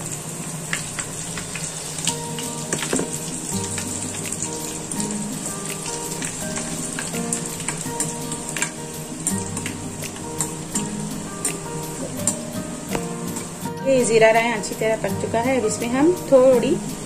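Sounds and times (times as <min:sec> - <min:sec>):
hot oil sizzling with crackling pops: 0:00.0 - 0:17.0.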